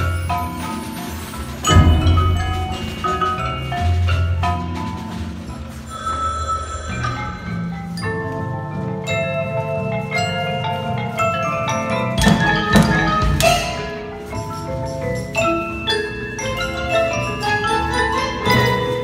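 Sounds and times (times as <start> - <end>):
marimbas and vibraphones: 0.0 - 19.0.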